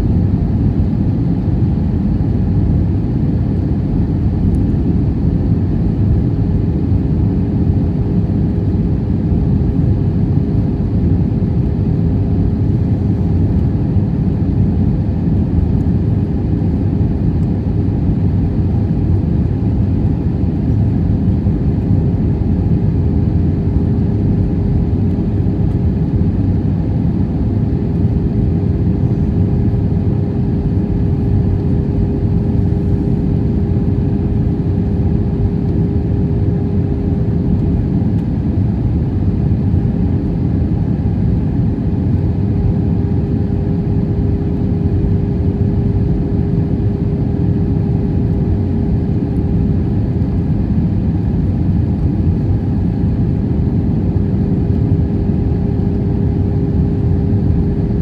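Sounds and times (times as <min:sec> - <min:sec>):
airflow and jet engine roar: 0:00.0 - 0:58.0
constant cabin hum: 0:00.0 - 0:58.0.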